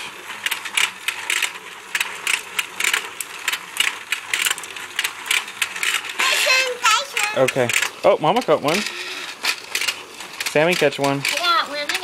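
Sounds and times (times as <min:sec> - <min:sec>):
toy mechanism clicking: 0:00.0 - 0:12.0.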